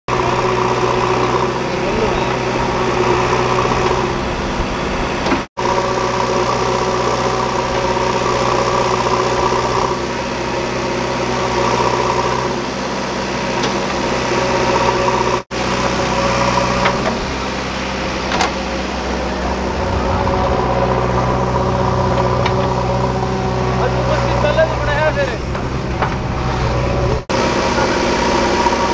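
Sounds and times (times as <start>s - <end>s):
diesel engines running: 0.0s - 28.9s.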